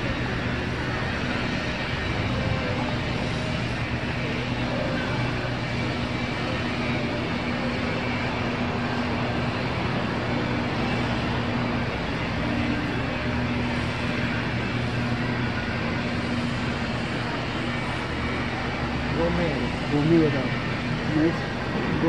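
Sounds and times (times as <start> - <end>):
city traffic: 0.0 - 22.0.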